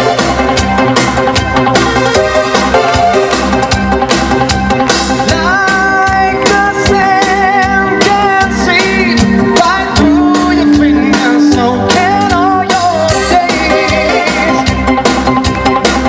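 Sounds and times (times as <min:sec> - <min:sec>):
live band playing pop: 0:00.0 - 0:16.0
steady drum beat: 0:00.0 - 0:16.0.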